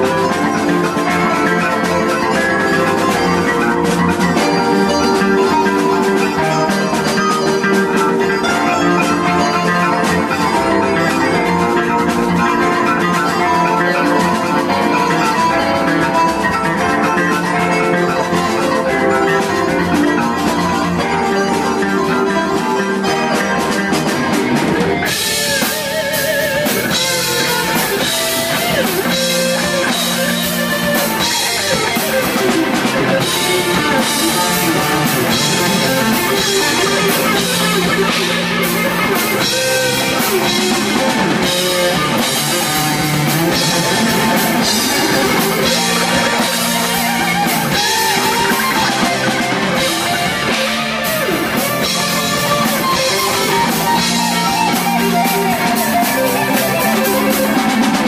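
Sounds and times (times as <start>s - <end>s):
electric guitar lead: 0.0s - 58.0s
rock band playing: 0.0s - 58.0s.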